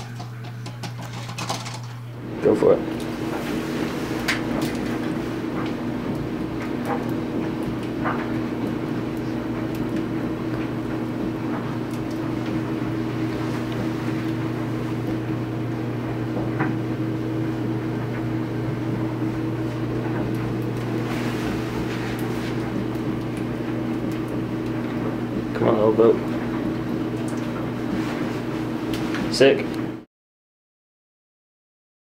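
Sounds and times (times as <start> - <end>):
low mechanical hum: 0.0 - 30.1.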